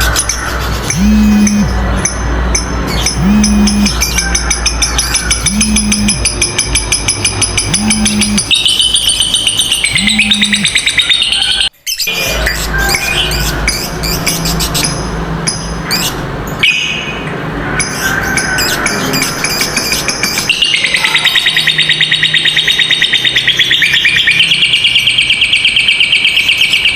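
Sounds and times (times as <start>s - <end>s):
lovebirds chattering: 0.0s - 17.2s, 17.8s - 26.9s.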